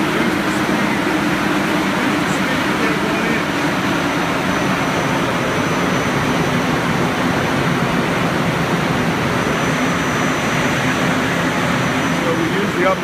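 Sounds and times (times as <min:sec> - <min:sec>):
fans rushing air: 0:00.0 - 0:13.0.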